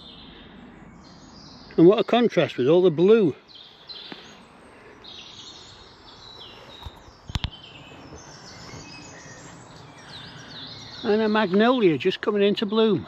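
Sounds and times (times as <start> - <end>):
birds singing and chirping: 0.0 - 13.0.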